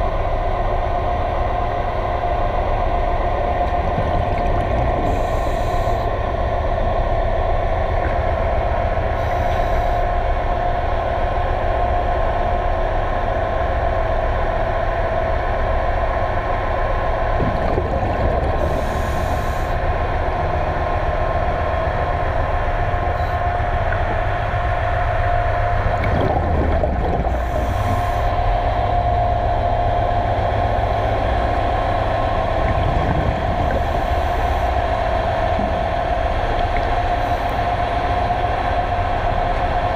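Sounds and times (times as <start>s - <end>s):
underwater machinery hum: 0.0s - 39.9s.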